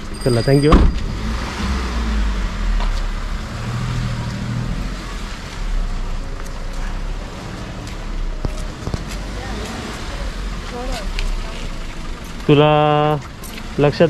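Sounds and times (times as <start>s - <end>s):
car engines running: 0.0s - 14.0s
low traffic rumble: 0.0s - 14.0s.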